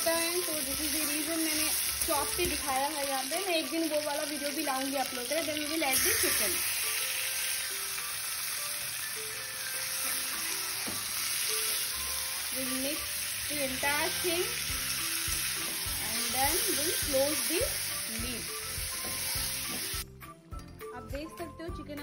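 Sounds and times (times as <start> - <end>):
chicken and potatoes sizzling: 0.0 - 20.0.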